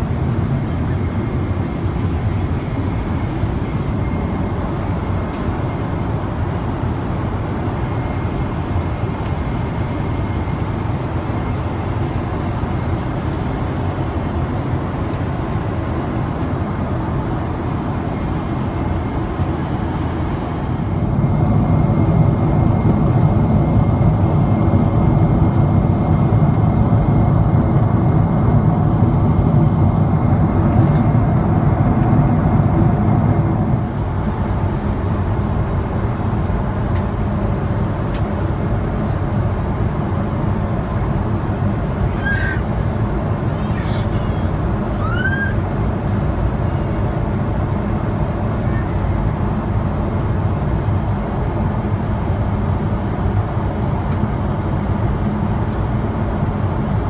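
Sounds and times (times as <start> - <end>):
airliner cabin roar: 0.0 - 57.0.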